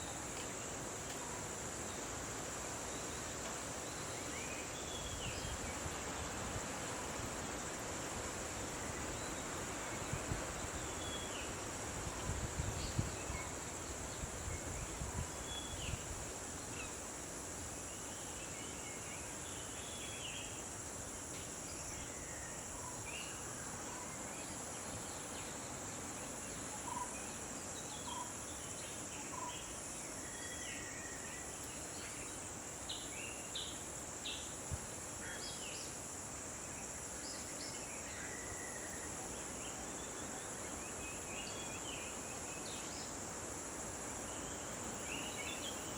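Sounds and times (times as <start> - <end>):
insect drone: 0.0 - 45.9.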